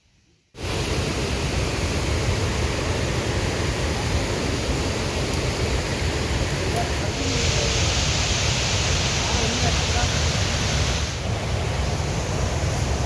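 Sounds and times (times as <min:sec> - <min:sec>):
rushing water: 0:00.6 - 0:13.0.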